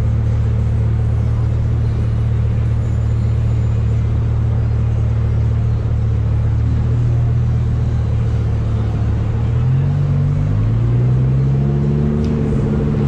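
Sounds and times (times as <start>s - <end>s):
car engine rumbling and revving: 0.0s - 13.0s.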